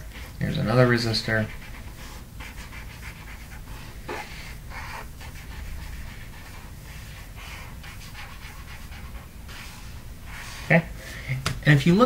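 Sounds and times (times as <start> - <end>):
marker scratching on paper: 0.0 - 10.9
low steady hum: 0.0 - 12.0.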